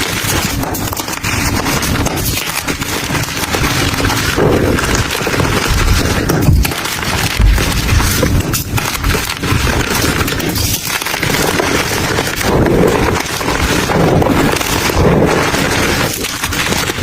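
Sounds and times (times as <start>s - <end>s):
dry crumbles crunching: 0.0s - 17.0s.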